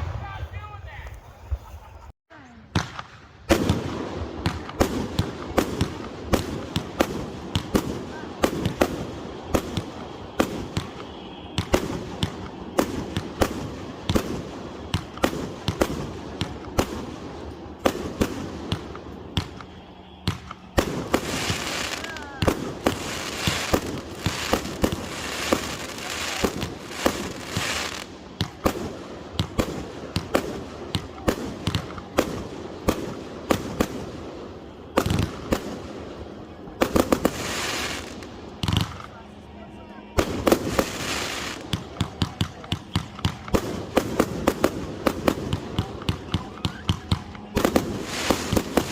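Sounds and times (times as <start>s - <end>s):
fireworks shots and bursts: 0.0s - 1.8s, 2.5s - 48.9s
fireworks crackling: 0.0s - 2.1s, 2.7s - 48.9s.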